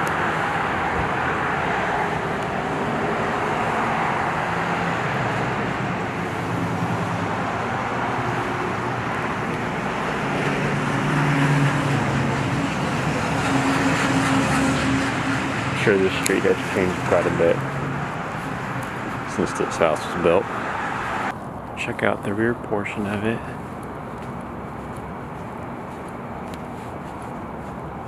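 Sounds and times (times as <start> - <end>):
engine hum: 0.0 - 28.0
passing cars rushing: 0.0 - 28.0.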